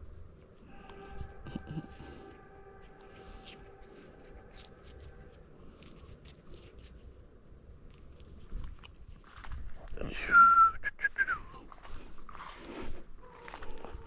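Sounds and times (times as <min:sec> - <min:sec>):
leaves rustling and crackling: 0:00.0 - 0:10.2, 0:11.6 - 0:14.0.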